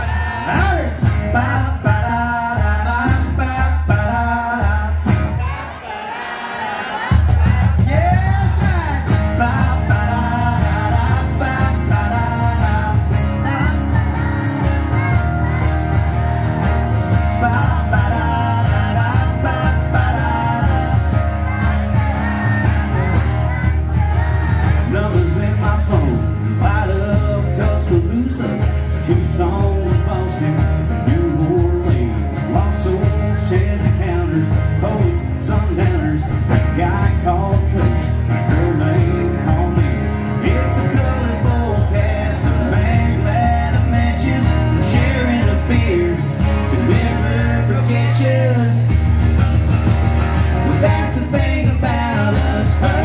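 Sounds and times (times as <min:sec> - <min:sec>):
man singing: 0:00.0 - 0:05.4, 0:07.4 - 0:49.2, 0:50.3 - 0:53.0
strummed acoustic guitar: 0:00.0 - 0:05.7, 0:07.0 - 0:53.0.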